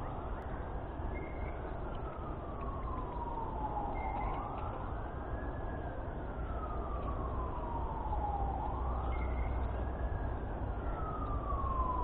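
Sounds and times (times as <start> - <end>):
emergency siren wailing: 2.0 - 12.0.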